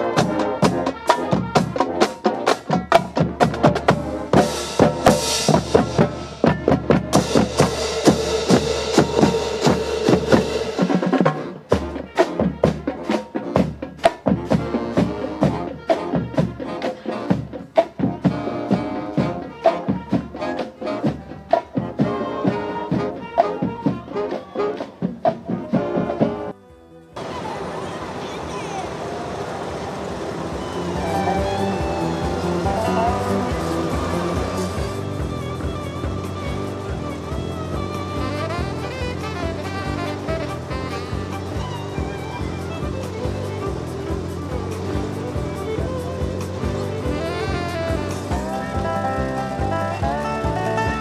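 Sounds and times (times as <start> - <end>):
band with drums and brass: 0.0 - 51.0.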